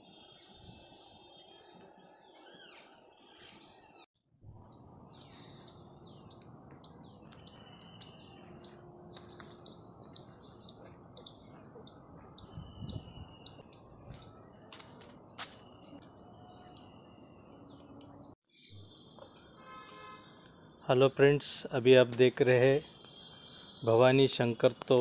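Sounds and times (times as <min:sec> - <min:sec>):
birds chirping and calling: 0:01.4 - 0:04.0, 0:04.6 - 0:25.0.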